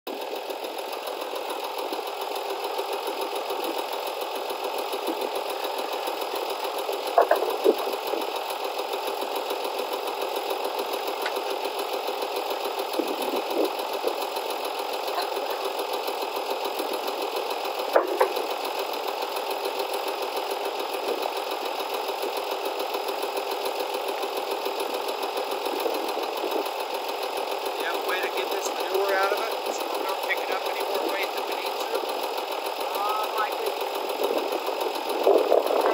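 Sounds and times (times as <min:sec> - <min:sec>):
tractor engine idling: 0:00.1 - 0:35.9.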